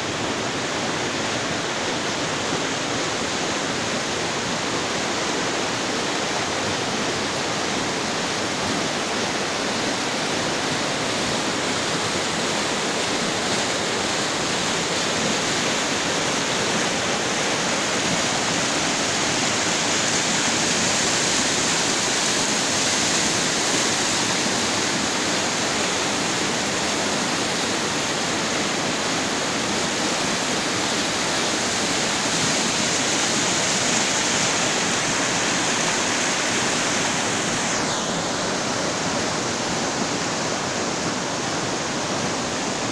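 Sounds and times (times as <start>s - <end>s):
river rushing over boulders: 0.0s - 42.9s.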